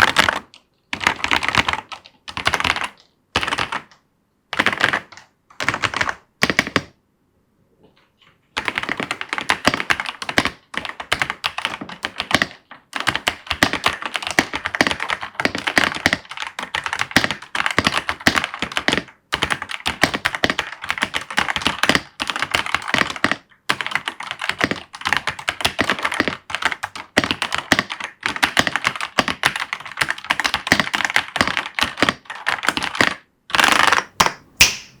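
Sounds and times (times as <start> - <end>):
mechanical keyboard typing: 0.0 - 6.9, 8.6 - 34.1.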